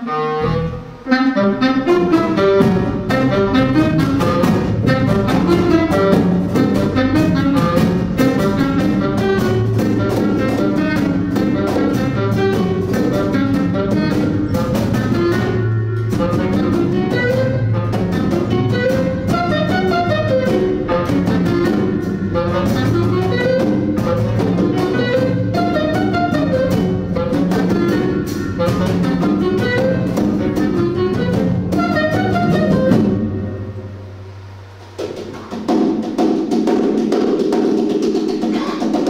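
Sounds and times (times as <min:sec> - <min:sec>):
clarinet: 0:00.0 - 0:34.4
double bass: 0:00.0 - 0:34.9
piano: 0:00.0 - 0:39.0
drum kit with cymbals: 0:00.6 - 0:39.0.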